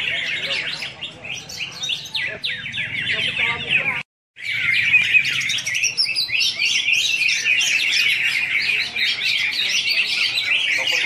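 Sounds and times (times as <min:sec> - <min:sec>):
birds chirping and warbling: 0:00.0 - 0:11.0.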